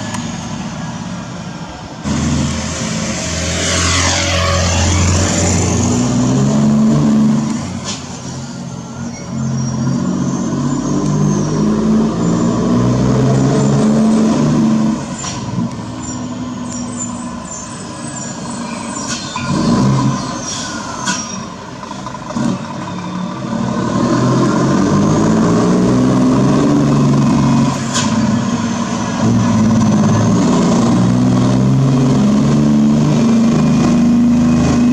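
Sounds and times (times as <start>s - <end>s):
truck diesel engine revving: 1.9s - 8.4s, 9.0s - 34.9s.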